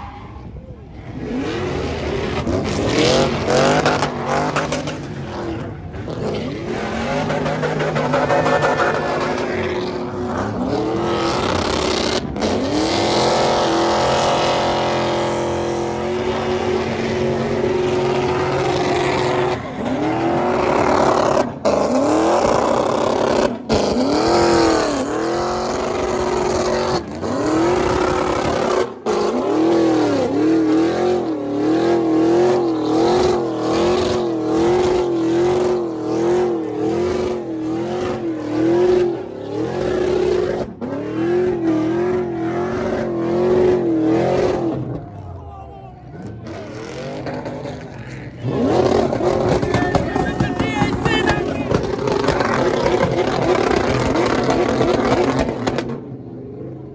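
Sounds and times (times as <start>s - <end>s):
vehicle engine revving: 0.0s - 45.3s, 46.0s - 56.1s.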